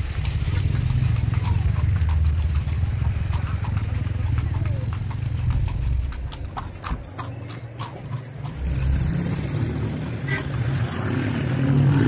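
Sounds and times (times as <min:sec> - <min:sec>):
horse hooves clip-clopping on pavement: 0:00.0 - 0:12.0
street traffic hum: 0:00.0 - 0:12.0.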